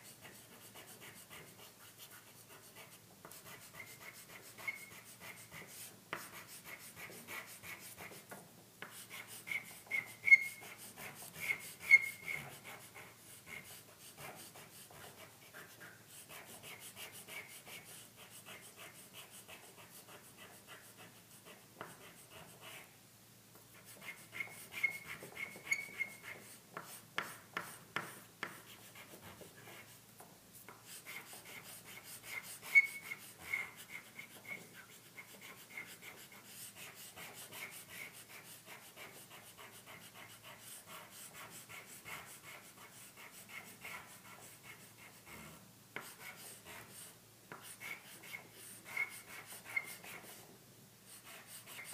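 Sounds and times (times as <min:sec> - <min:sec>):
chalk scratching on paper: 0:00.0 - 0:23.0, 0:23.7 - 0:50.5, 0:51.1 - 0:51.9.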